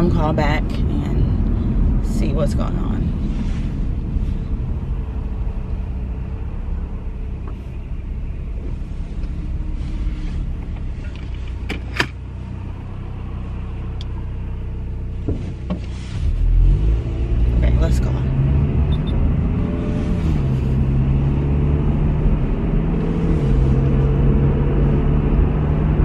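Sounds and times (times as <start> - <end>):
car engine low rumble: 0.0 - 26.0.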